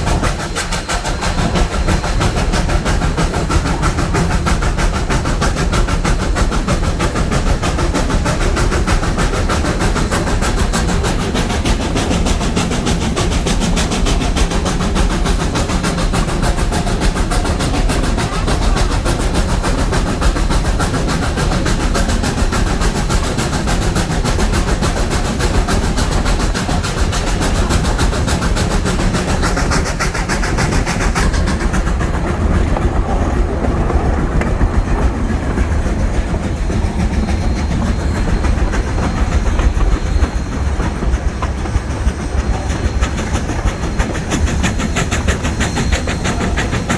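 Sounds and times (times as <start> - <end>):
train rumbling along track: 0.0 - 46.9
wheels clattering on rails: 0.0 - 46.9.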